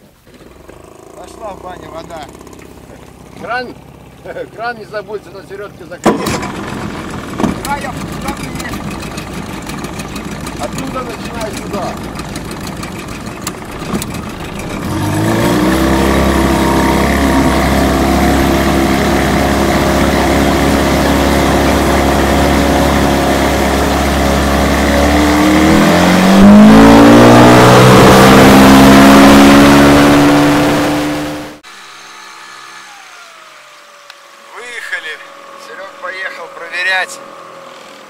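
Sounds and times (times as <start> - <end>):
boat motor running: 0.2 - 38.0.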